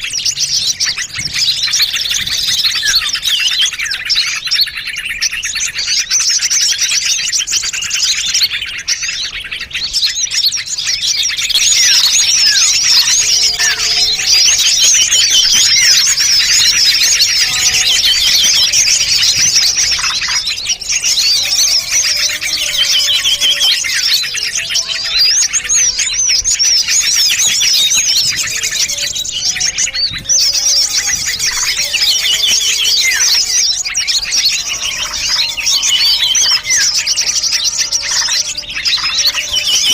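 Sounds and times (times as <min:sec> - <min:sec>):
low whistled bird notes: 0:00.0 - 0:39.9
songbirds chirping and trilling: 0:00.0 - 0:39.9.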